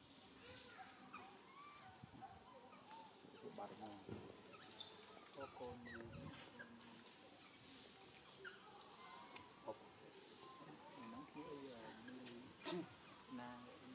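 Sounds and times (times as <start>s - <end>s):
faint outdoor ambience: 0.0s - 13.9s
bird chirping: 0.4s - 13.9s.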